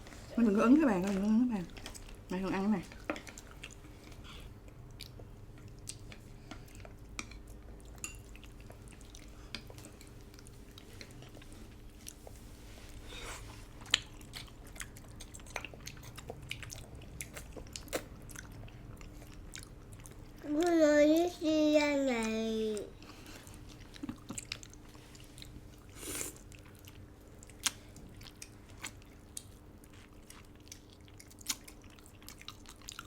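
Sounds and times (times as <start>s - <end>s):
faint steady hum: 0.0s - 33.0s
wet chewing mouth sounds: 3.0s - 20.3s, 23.0s - 33.0s.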